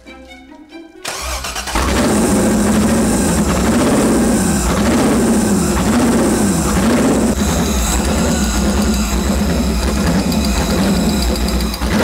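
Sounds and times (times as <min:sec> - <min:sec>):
car engine surging: 0:01.1 - 0:12.0.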